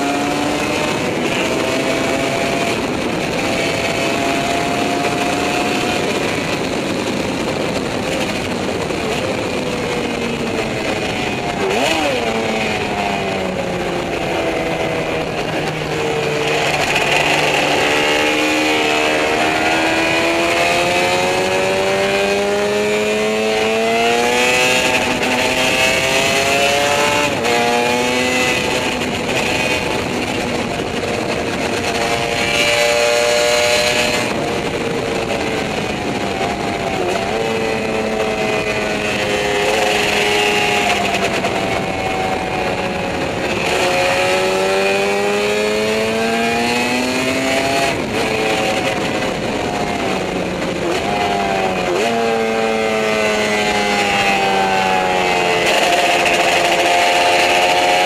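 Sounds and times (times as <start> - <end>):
two-stroke motorcycle engine revving: 0.0 - 58.0
wind rush: 0.0 - 58.0.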